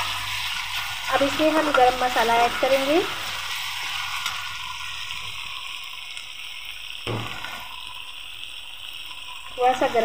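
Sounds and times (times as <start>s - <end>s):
masala sizzling in hot oil: 0.0s - 10.0s.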